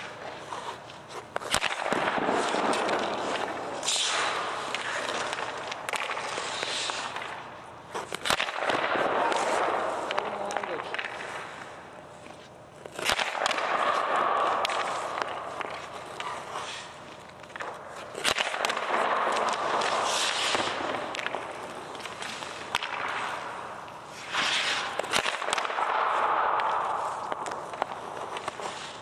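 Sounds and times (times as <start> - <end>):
hockey stick striking puck: 0.0 - 29.0
skate blades scraping ice: 0.0 - 29.0.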